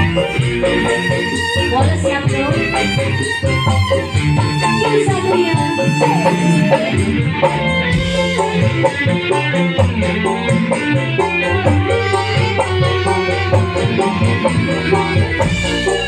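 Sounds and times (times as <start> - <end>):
bass guitar: 0.0 - 16.0
electric guitar: 0.0 - 16.0
hand drums: 0.0 - 16.0
keyboard melody: 0.0 - 16.0.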